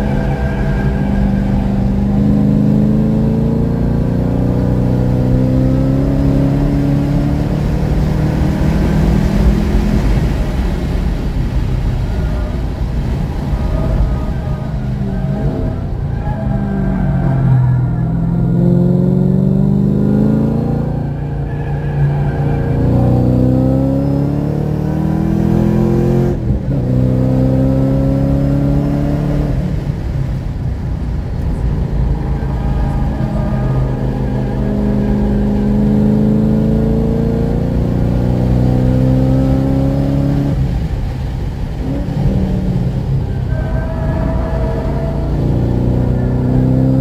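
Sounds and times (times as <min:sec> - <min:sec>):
car engine accelerating: 0:00.0 - 0:47.0.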